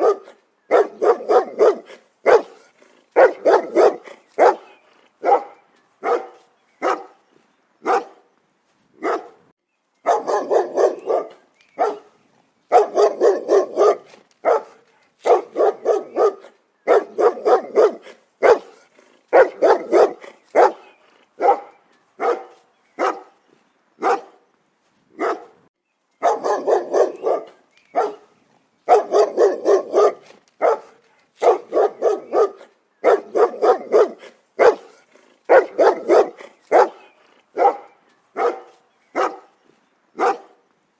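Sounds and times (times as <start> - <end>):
dog barking: 0.0 - 7.2, 7.8 - 8.2, 9.0 - 9.4, 10.0 - 23.4, 24.0 - 24.4, 25.2 - 25.6, 26.2 - 28.3, 28.9 - 39.6, 40.2 - 40.6.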